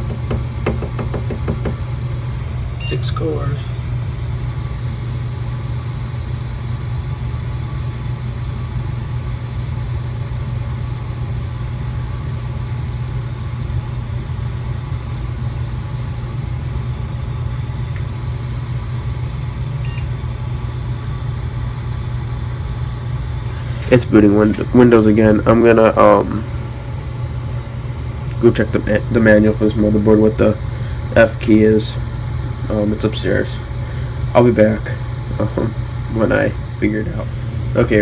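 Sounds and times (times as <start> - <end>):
computer fans humming: 0.0 - 38.0.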